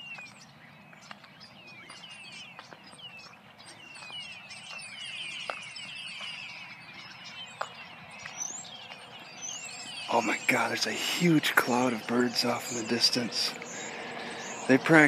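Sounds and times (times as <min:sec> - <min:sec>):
flock of small birds chirping: 0:00.0 - 0:15.0.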